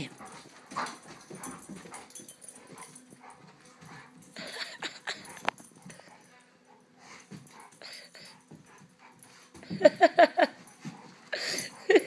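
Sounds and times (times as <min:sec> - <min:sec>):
dogs playing: 0:00.0 - 0:12.0.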